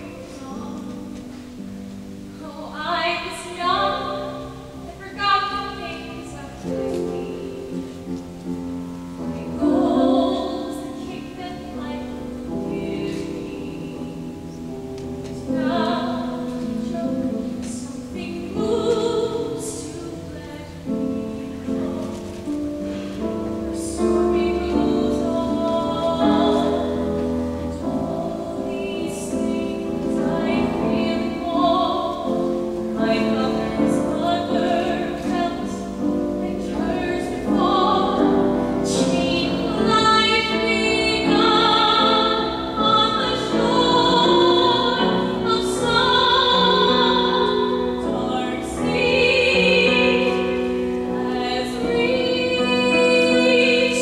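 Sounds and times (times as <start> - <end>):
woman singing operatically: 0.0 - 1.1, 2.4 - 7.8, 9.4 - 14.2, 15.4 - 22.2, 23.5 - 54.0
piano accompaniment: 0.0 - 54.0.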